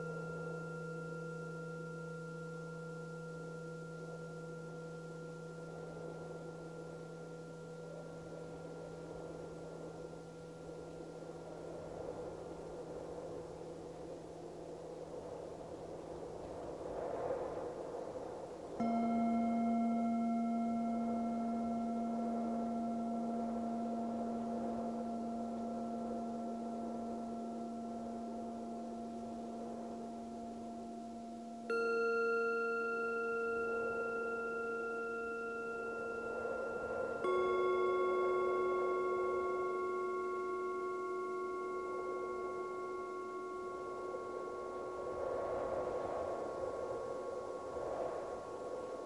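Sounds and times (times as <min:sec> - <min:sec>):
singing bowls ringing: 0:00.0 - 0:15.8, 0:16.6 - 0:49.0
soft wind: 0:00.0 - 0:49.0.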